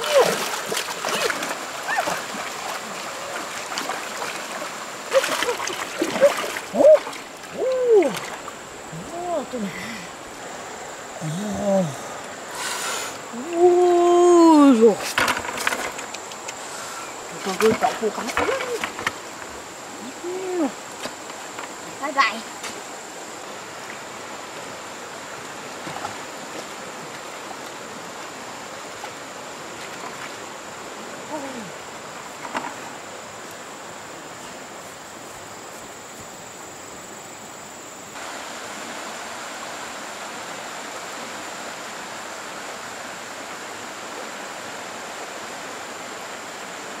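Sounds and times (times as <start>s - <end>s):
outdoor background hiss: 0.0s - 47.0s.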